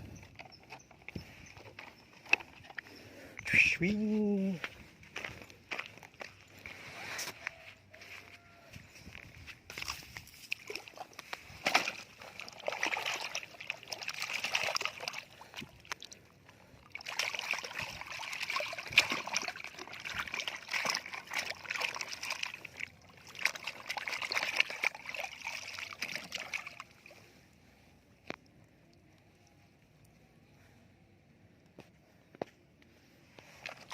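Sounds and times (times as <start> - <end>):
water sloshing and splashing: 0.0 - 3.4, 4.6 - 8.4, 9.0 - 29.9, 33.2 - 33.9.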